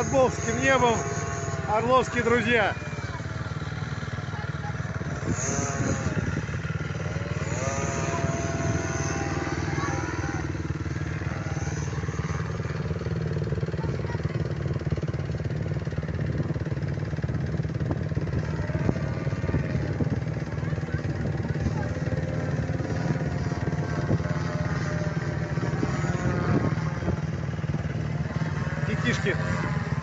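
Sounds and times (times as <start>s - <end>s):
small petrol engines running: 0.0s - 30.0s.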